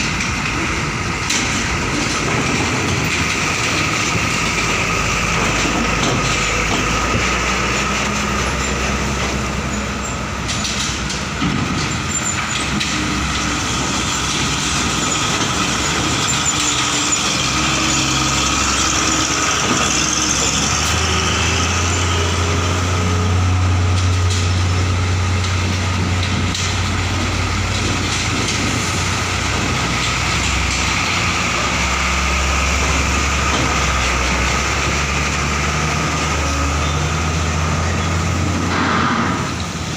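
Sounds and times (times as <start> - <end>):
heavy truck diesel engines: 0.0 - 39.9.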